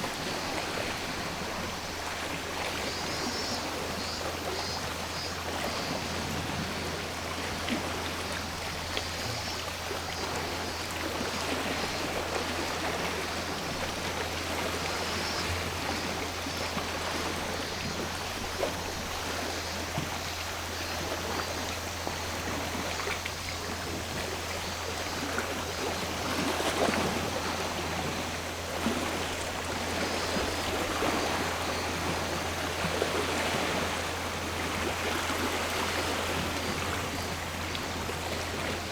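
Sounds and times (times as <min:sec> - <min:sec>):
sea surf washing ashore: 0:00.0 - 0:38.9.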